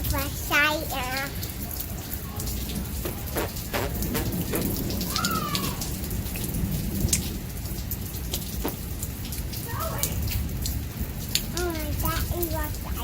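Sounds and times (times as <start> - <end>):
rain falling steadily: 0.0 - 13.0
raindrops ticking: 0.0 - 13.0.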